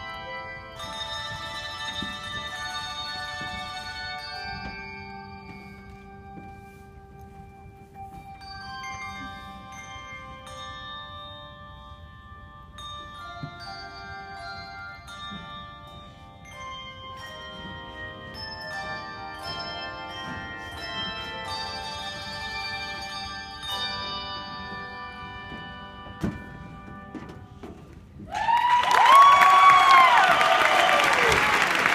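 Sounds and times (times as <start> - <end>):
hand bells ringing: 0.0 - 31.6.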